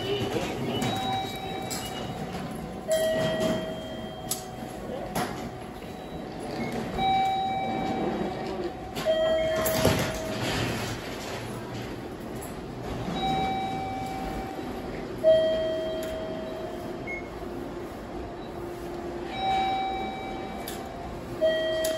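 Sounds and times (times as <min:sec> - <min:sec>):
train rumbling slowly: 0:00.0 - 0:21.9.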